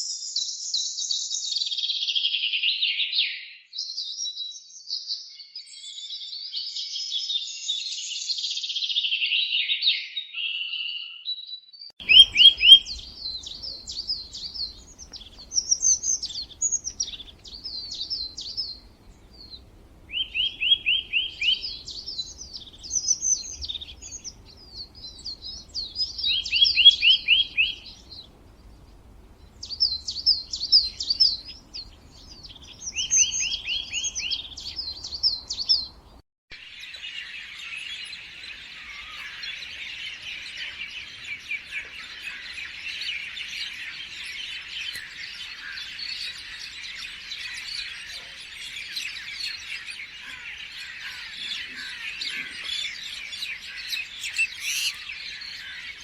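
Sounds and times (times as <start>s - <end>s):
chorus of birds chirping: 9.2s - 56.0s
songbirds singing: 9.3s - 56.0s.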